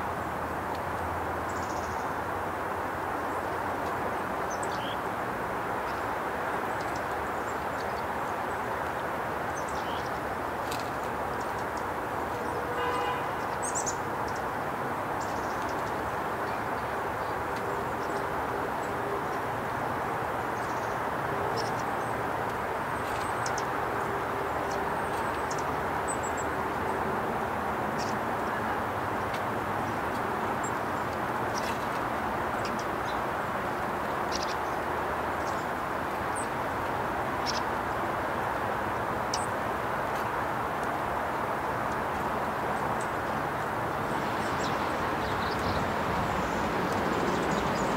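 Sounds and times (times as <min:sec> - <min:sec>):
small birds chipping: 0:00.1 - 0:47.9.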